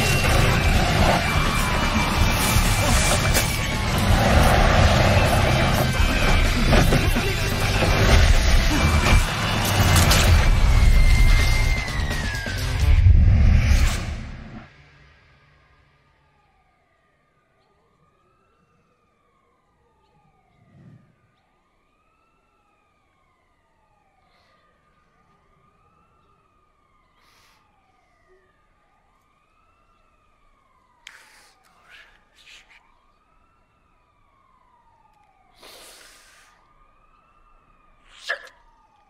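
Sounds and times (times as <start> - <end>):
distant emergency sirens wailing: 0.0 - 39.0.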